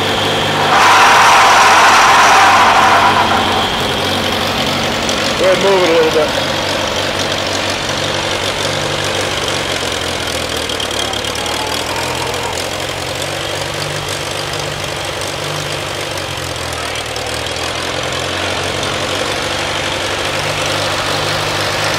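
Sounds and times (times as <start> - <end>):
tractor engine idling: 2.8 - 21.9.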